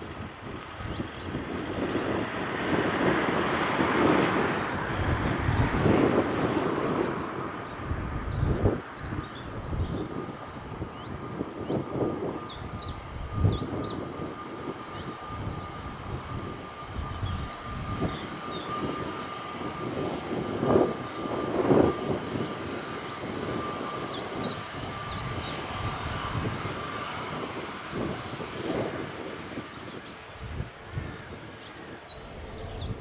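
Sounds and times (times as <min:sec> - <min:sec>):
jet engine high whine: 0:00.0 - 0:33.0
jet engines rushing: 0:00.0 - 0:33.0.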